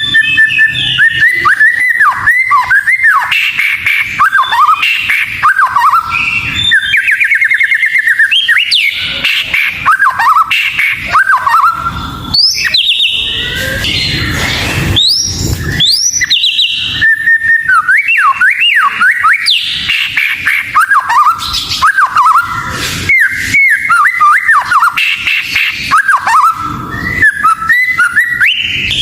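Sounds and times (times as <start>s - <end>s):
songbird singing whistled notes: 0.0s - 29.0s.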